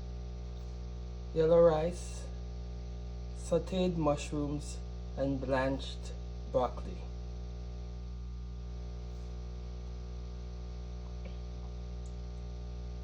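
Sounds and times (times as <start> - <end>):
buzzy electrical hum: 0.0 - 13.0.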